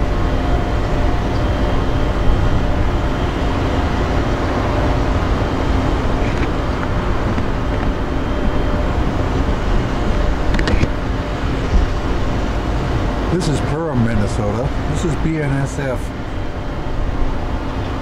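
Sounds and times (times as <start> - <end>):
diesel locomotive idling: 0.0 - 18.0
wind buffeting microphone: 0.0 - 18.0.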